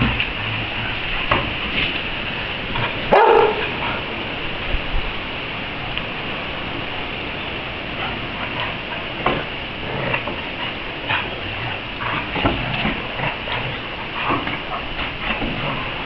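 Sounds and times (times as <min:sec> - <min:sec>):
background hiss: 0:00.0 - 0:16.0
dogs playing: 0:00.0 - 0:16.0.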